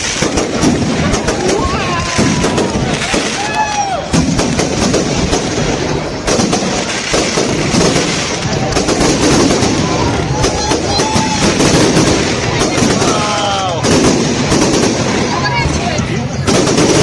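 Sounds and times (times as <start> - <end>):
fireworks crackling and banging: 0.0 - 17.0
large crowd voices: 0.0 - 17.0.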